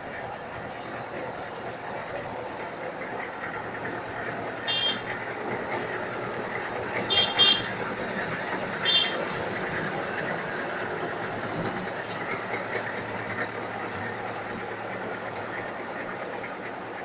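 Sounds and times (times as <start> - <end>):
machinery and traffic rumble: 0.0 - 17.0.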